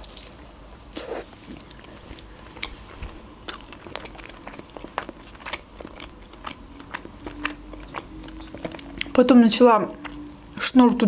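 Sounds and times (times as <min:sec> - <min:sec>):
person chewing with mouth clicks: 0:00.0 - 0:10.8.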